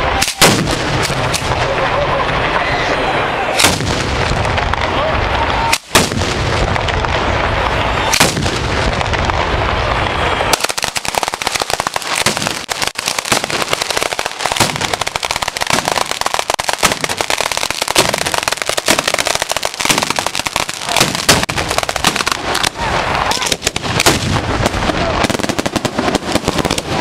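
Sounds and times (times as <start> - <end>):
firework bangs and crackles: 0.0 - 27.0
rumble of firework blasts: 0.0 - 27.0.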